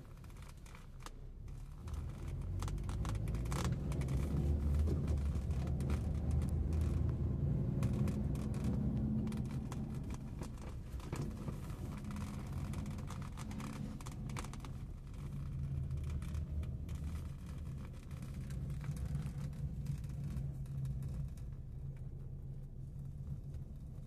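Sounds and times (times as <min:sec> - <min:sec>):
car engine and road rumble: 0:00.0 - 0:24.0
light clicks and rattles: 0:00.0 - 0:24.0.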